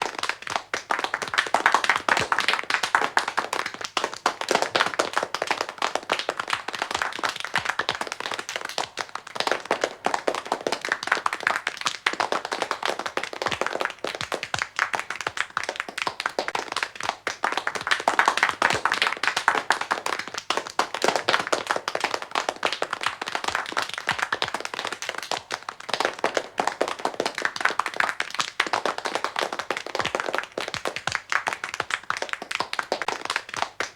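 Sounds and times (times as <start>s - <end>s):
audience clapping: 0.0s - 33.9s.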